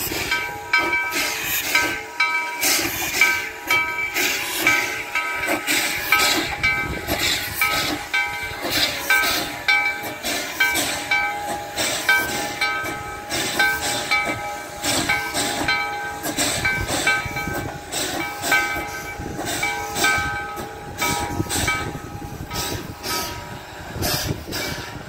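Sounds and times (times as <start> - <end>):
steam hissing: 0.0 - 25.0
steam locomotive exhaust chuffing: 0.0 - 25.0.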